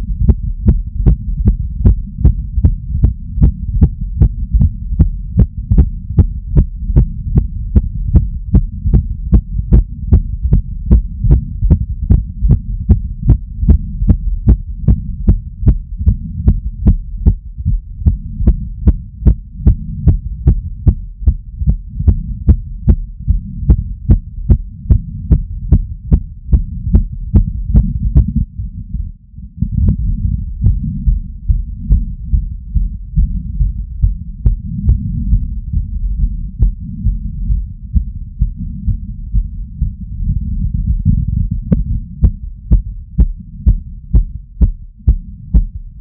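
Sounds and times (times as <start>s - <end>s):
fast heartbeat: 0.0s - 46.0s
steady low rumble: 0.0s - 46.0s.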